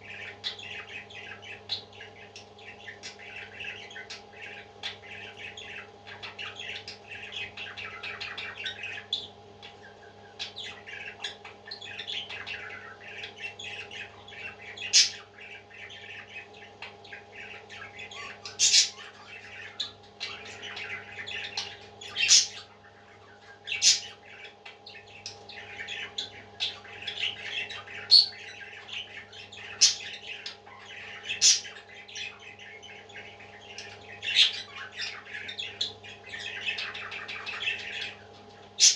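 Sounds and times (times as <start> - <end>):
low electrical hum: 0.0 - 38.9
parrots chattering and cheeping: 0.0 - 38.9.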